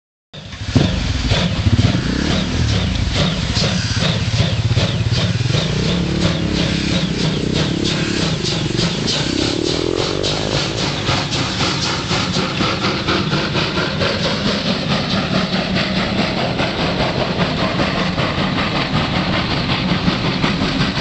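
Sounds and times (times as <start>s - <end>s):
steam hissing: 0.4s - 21.0s
steam locomotive exhaust chuffing: 0.4s - 21.0s
heavy rumble: 0.5s - 21.0s.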